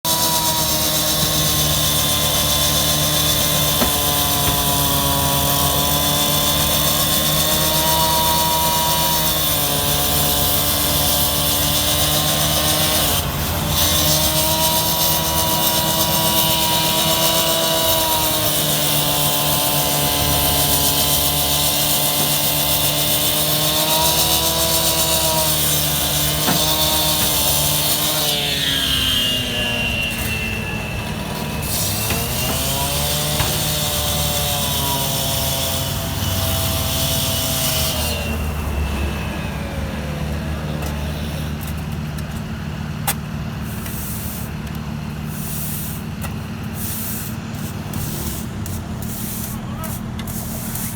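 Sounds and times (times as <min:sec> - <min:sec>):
concrete saw cutting: 0:00.0 - 0:50.9.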